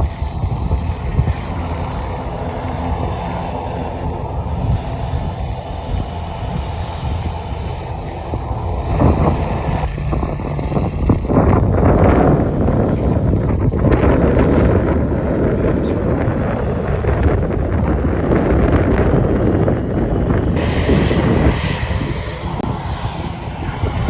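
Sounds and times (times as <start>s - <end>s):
aircraft engine rumble: 0.0s - 24.0s
wind buffeting microphone: 0.0s - 24.0s.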